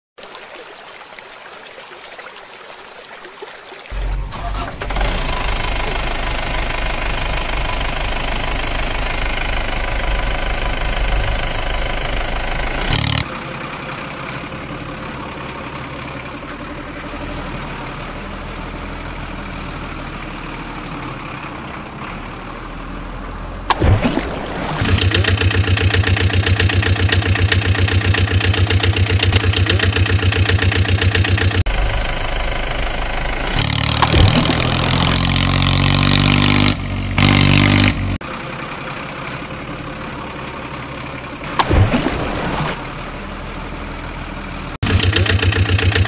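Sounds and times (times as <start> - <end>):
vehicle engine running: 3.9 - 23.8, 24.4 - 46.0.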